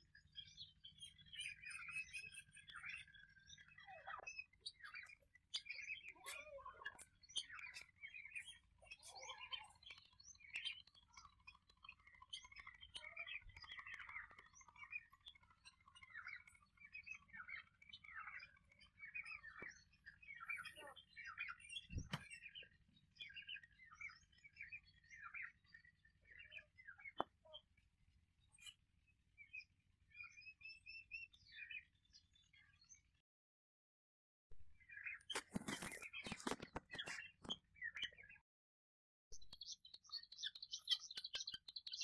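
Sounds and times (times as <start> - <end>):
small birds chirping and chattering: 0.0 - 33.2, 34.7 - 38.4, 39.4 - 42.0.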